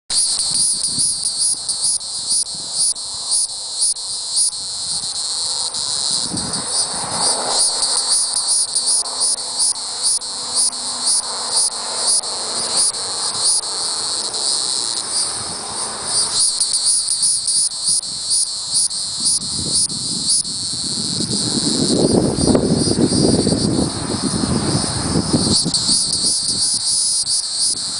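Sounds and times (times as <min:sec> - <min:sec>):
cicada pulsing buzz: 0:00.1 - 0:27.9.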